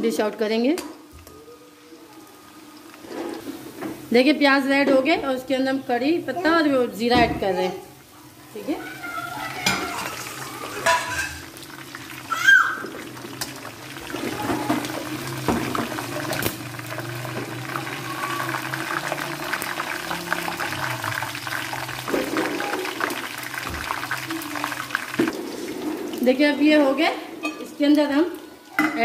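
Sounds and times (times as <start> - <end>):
food sizzling in hot oil: 1.0 - 28.5.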